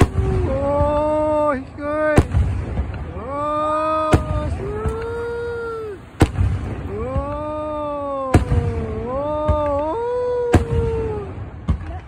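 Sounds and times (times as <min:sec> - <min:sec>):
firework shells booming: 0:00.0 - 0:12.0.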